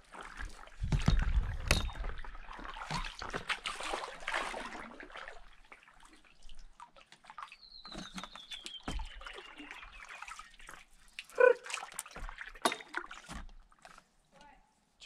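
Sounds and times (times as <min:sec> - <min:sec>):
paddle splash: 0:00.0 - 0:14.0
water dripping off a paddle: 0:01.6 - 0:14.1.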